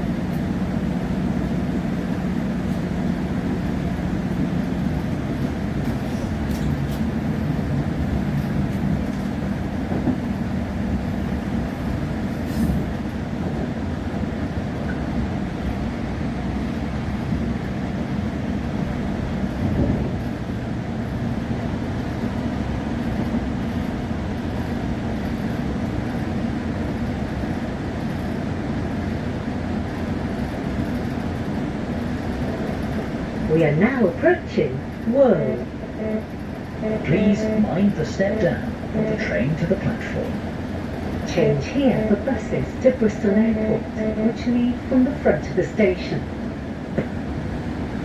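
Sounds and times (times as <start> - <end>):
train carriage rumble: 0.0 - 48.0.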